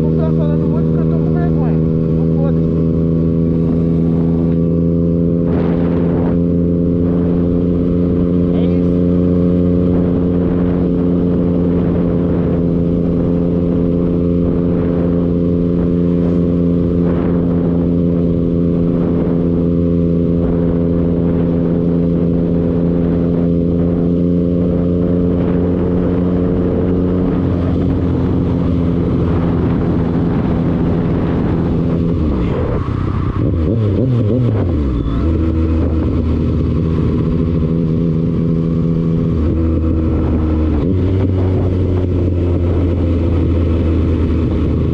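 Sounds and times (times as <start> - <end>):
vehicle engine droning: 0.0 - 44.9.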